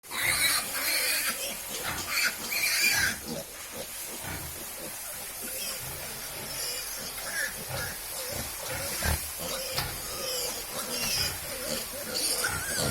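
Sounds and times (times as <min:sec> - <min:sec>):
pigs squealing: 0:00.0 - 0:12.9.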